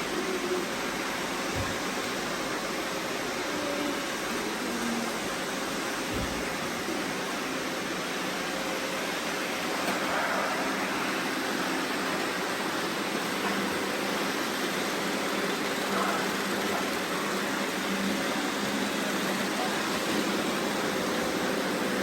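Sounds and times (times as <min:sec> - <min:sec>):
robot vacuum cleaner running: 0:00.0 - 0:22.0.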